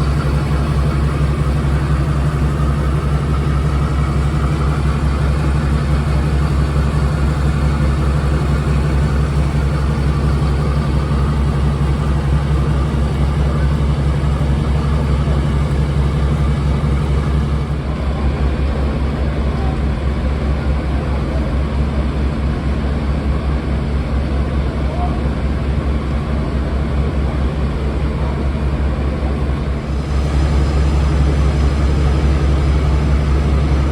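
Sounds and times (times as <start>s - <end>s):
diesel locomotive engines throbbing: 0.0s - 33.9s.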